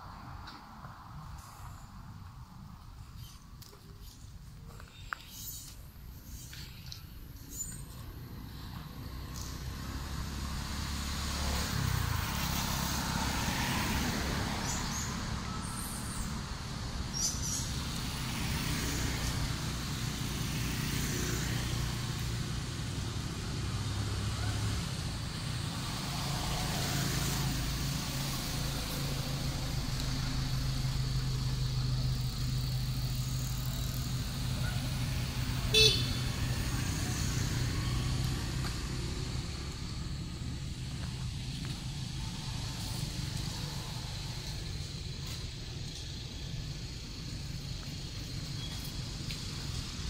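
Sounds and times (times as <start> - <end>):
vehicle engines humming: 0.0 - 50.0.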